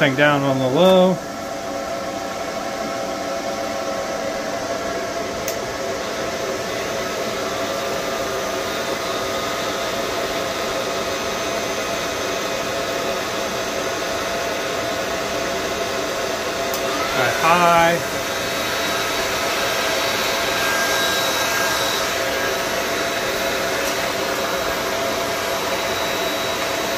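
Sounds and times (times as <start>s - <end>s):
cooling fans whooshing: 0.0s - 26.9s.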